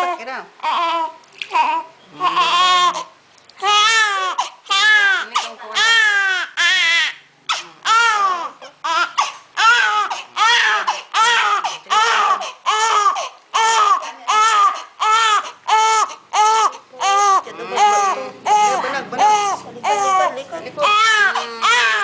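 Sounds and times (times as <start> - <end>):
newborn baby crying: 0.0 - 22.0.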